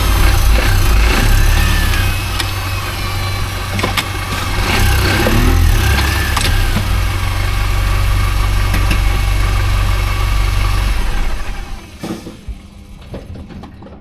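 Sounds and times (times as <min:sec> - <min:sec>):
sharp clicks: 0:00.0 - 0:11.4
car engine low rumble: 0:00.0 - 0:12.0.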